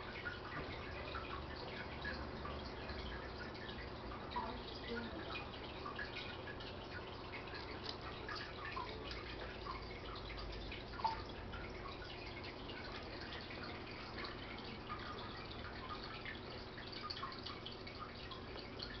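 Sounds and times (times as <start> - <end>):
fish tank water trickling and bubbling: 0.0 - 19.0
water plop: 0.0 - 19.0.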